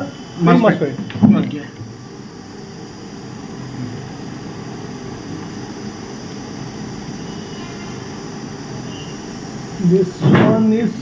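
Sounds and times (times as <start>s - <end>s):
hot-air station airflow rushing: 0.0s - 11.0s.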